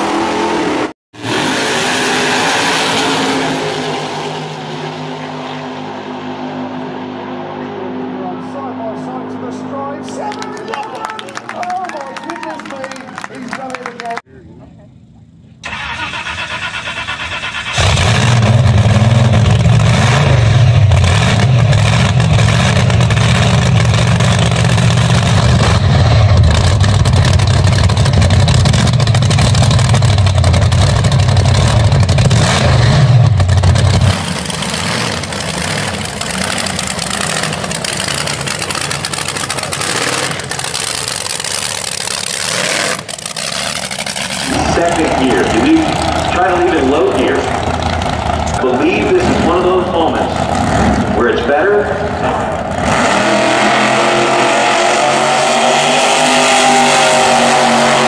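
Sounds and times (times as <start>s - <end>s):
supercharged engine revving: 0.0s - 6.2s, 15.6s - 58.0s.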